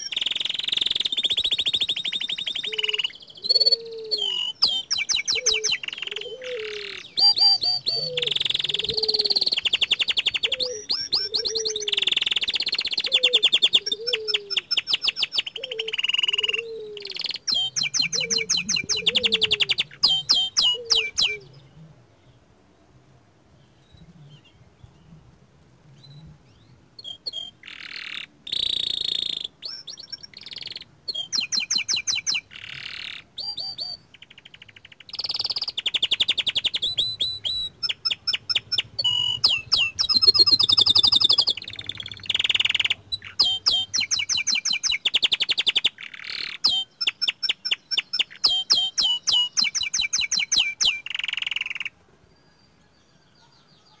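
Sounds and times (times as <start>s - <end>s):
canary singing: 0.0s - 21.8s, 26.0s - 54.0s.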